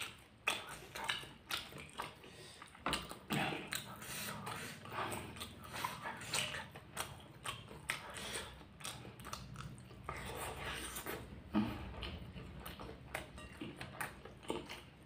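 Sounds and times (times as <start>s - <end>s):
close chewing and biting: 0.0s - 15.0s.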